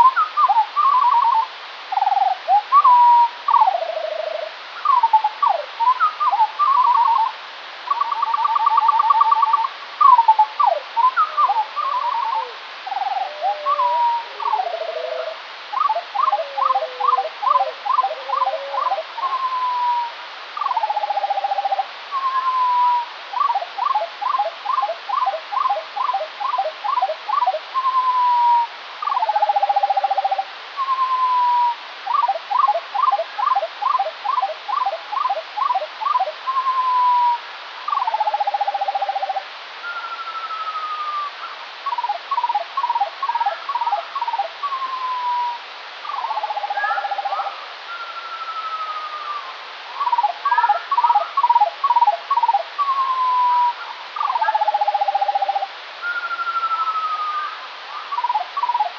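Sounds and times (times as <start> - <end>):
slowed birdsong whistles and trills: 0.0 - 58.9
steady hiss: 0.0 - 58.9.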